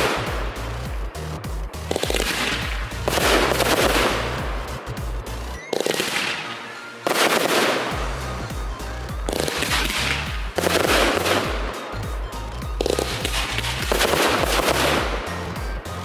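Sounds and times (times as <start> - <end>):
music with heavy bass: 0.0 - 5.6, 7.8 - 16.0
fireworks booming and crackling: 0.0 - 15.9.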